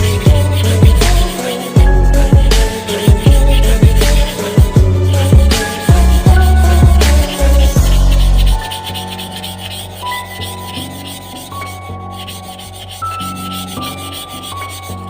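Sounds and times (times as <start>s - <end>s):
sanding rust off metal: 0.0s - 15.0s.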